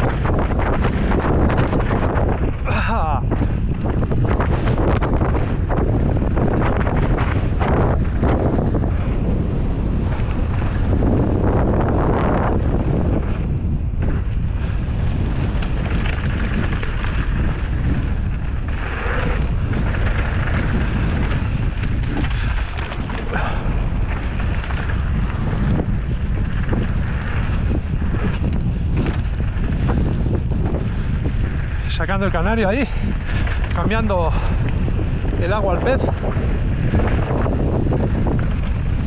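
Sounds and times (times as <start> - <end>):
bike knocks and rattles: 0.0 - 31.9, 32.5 - 39.0
tyres rolling on dirt trail: 0.0 - 39.0
wind buffeting microphone: 0.0 - 39.0.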